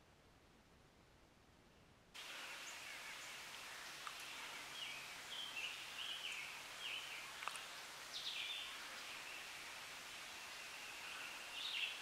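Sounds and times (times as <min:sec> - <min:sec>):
woodland ambience: 0:00.0 - 0:12.0.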